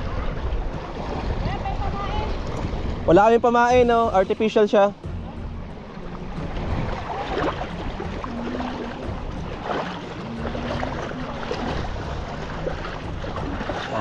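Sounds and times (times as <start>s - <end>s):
sea water washing: 0.0s - 14.0s
wind: 0.0s - 14.0s.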